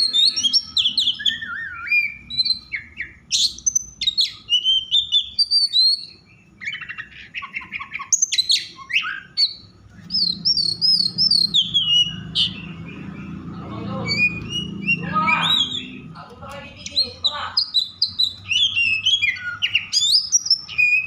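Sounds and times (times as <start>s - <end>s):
songbird singing whistles: 0.0s - 16.1s, 16.8s - 21.0s.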